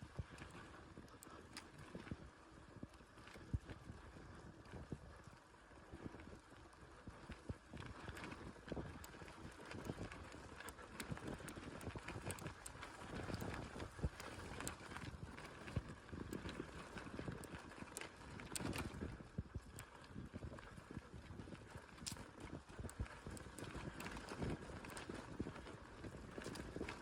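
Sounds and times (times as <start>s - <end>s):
bicycle rattling on rough ground: 0.0s - 27.0s.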